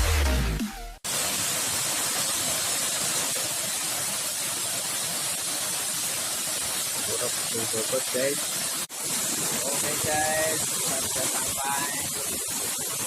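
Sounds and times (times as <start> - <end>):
waterfall rushing: 1.0 - 13.0.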